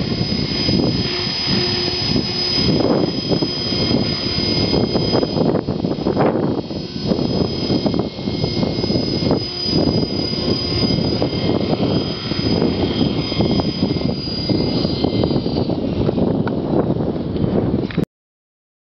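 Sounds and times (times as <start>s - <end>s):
rc helicopter whine: 0.0s - 18.0s
wind buffeting microphone: 0.0s - 18.0s.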